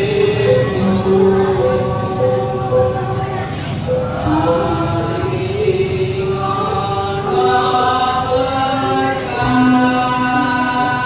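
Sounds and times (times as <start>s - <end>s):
gamelan ensemble playing: 0.0s - 11.0s
voices chanting long notes: 0.0s - 11.0s.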